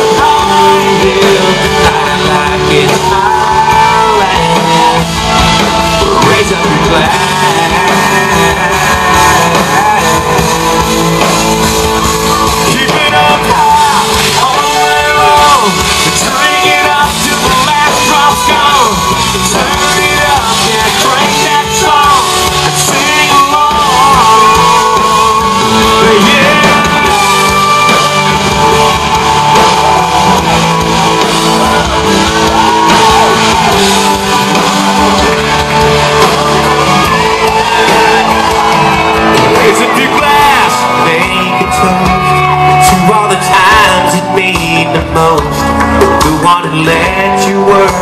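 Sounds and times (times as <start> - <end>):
crowd shouting: 0.0 - 45.2
country-rock band playing: 0.0 - 48.0
person singing into microphone: 0.0 - 48.0.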